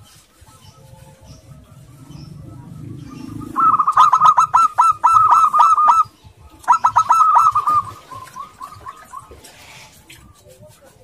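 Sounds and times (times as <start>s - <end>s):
dove cooing: 0.0s - 10.4s.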